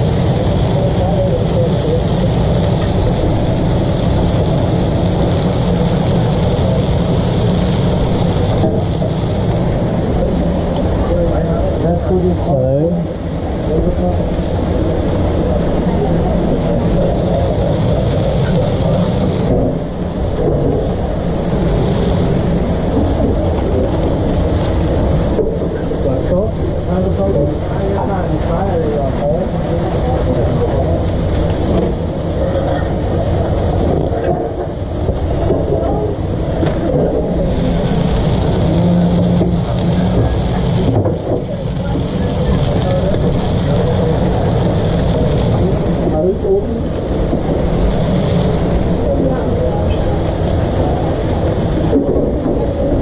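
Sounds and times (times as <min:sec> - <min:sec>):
food frying: 0:00.0 - 0:53.0
loud mechanical rumble with hiss: 0:00.0 - 0:53.0
low fan hum: 0:00.0 - 0:53.0.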